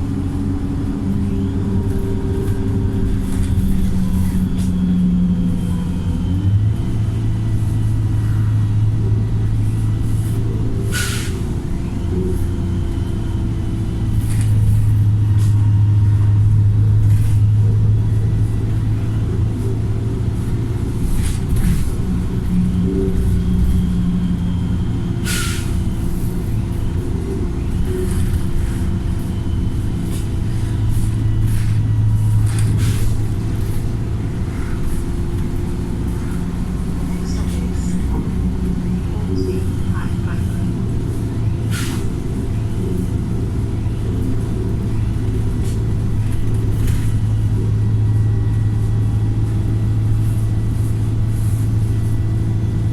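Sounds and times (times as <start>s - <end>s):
bus diesel engine pulling hard: 0.0s - 52.9s.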